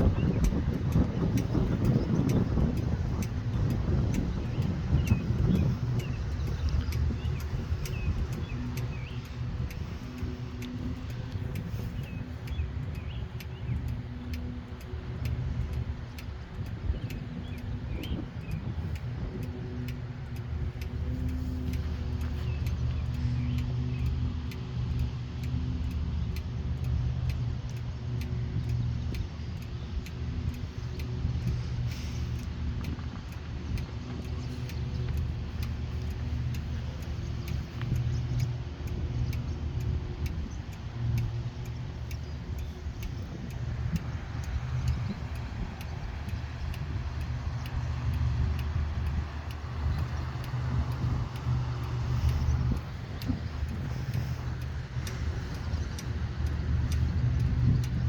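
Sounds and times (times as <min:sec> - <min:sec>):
low engine rumble: 0:00.0 - 0:58.0
sharp regular ticking: 0:00.0 - 0:58.0.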